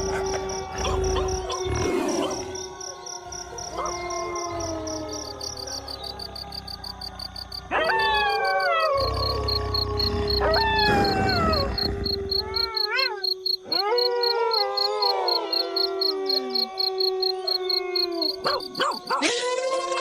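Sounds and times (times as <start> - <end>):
insects chirping: 0.0 - 19.3
wolves howling: 0.0 - 20.0.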